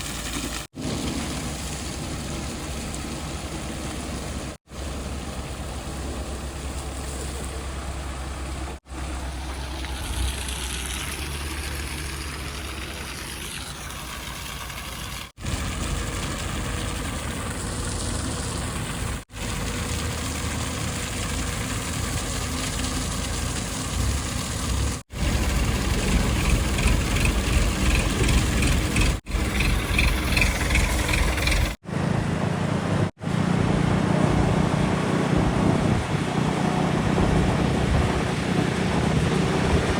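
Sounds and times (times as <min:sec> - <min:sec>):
heavy machinery diesel engines: 0:00.8 - 0:39.9.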